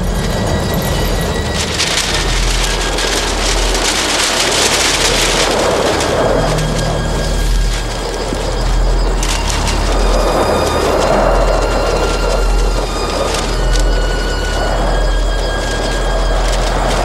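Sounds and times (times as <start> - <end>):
hissing crackling rush: 0.0 - 17.0
steady low rumble: 0.0 - 17.0.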